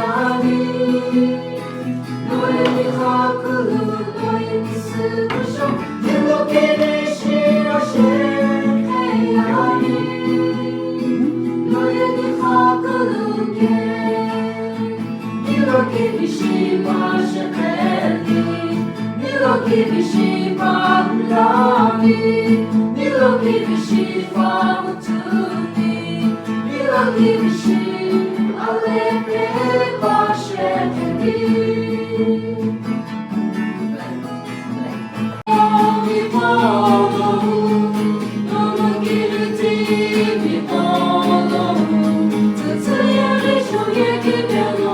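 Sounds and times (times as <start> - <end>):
choir singing gospel: 0.0 - 33.1, 35.4 - 44.9
plucked guitar: 0.0 - 44.9.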